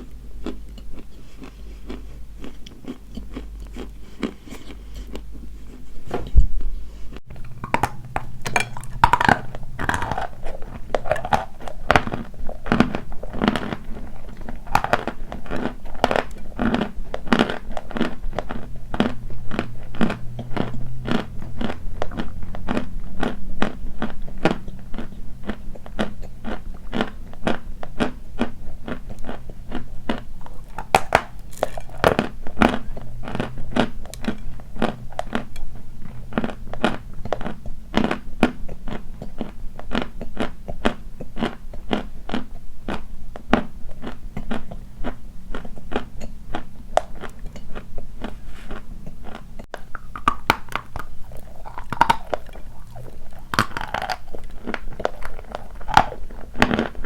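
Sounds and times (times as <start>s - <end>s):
chalk being chewed crunching: 0.0s - 6.2s, 7.3s - 57.0s.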